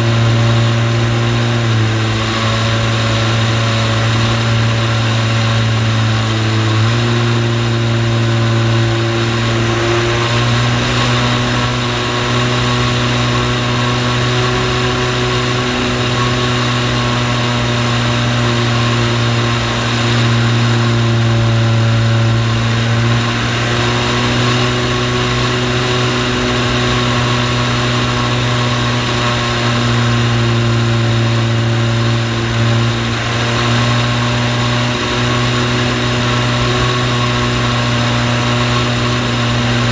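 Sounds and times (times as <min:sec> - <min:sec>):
model plane motor drone: 0:00.0 - 0:39.9.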